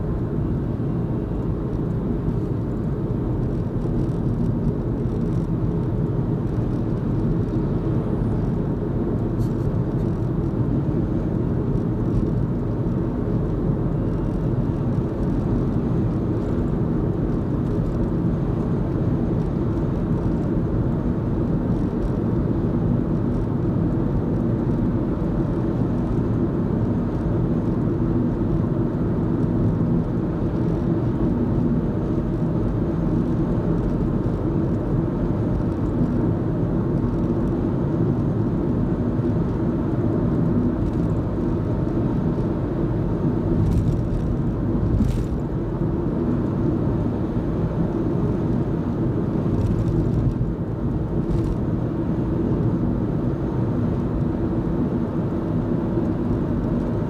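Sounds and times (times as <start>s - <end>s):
car engine: 0.0s - 57.0s
tyres rumbling on road: 0.0s - 57.0s.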